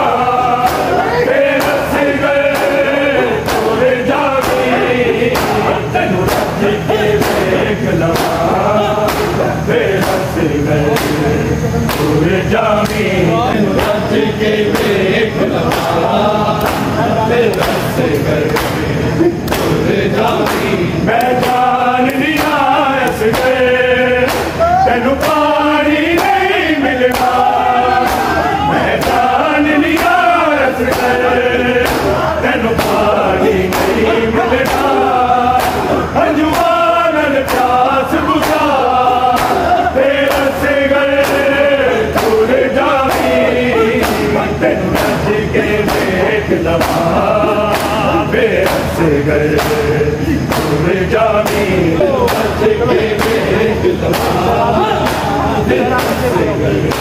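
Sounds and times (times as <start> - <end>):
men chanting in unison: 0.0 - 57.0
chest-beating slaps: 0.6 - 12.2, 12.8 - 13.1, 13.7 - 57.0.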